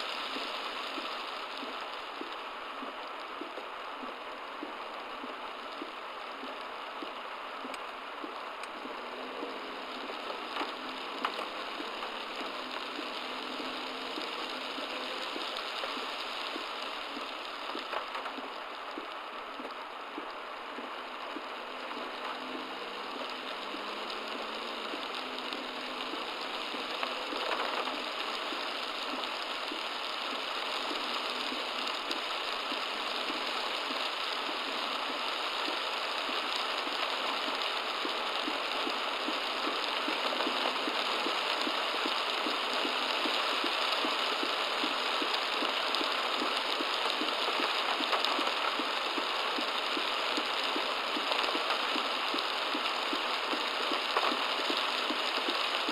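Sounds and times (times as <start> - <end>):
heavy rain on car roof: 0.0 - 55.9.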